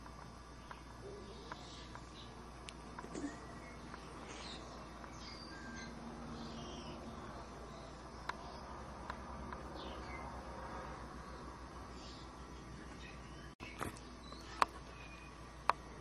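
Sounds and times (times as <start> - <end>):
steady low hum: 0.0 - 16.0
faint bird chirps and calls: 0.5 - 2.5, 3.1 - 15.6.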